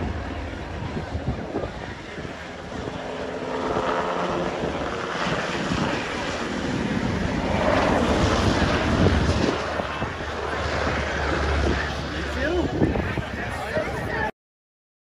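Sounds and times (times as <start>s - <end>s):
helicopter rotor and turbine: 0.0s - 14.3s.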